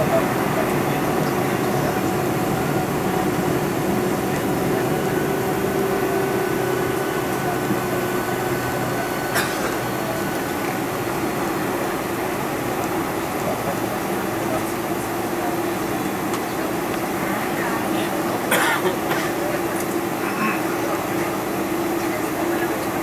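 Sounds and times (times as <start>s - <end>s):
jet engine hum and rumble: 0.0s - 23.0s.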